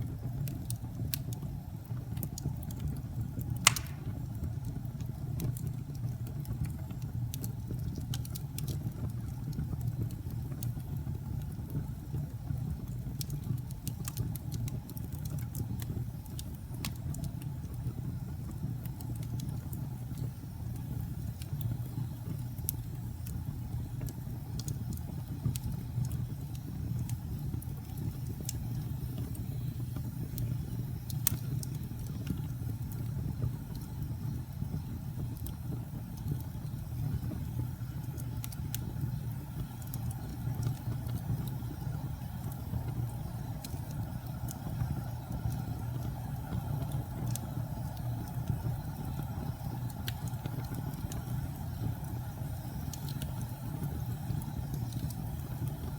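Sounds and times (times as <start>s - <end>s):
fire crackles and pops: 0.0s - 55.9s
fire low rumble: 0.0s - 55.9s.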